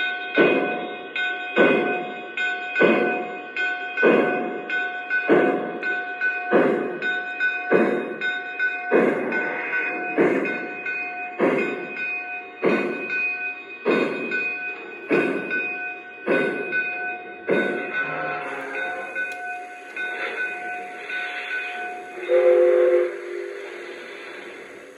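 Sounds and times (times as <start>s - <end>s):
model steam locomotive chuffing: 0.0s - 24.9s.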